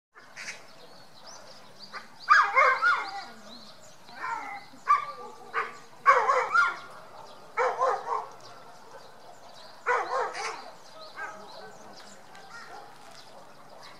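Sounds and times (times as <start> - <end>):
dog barking: 0.8 - 3.3, 4.9 - 13.9.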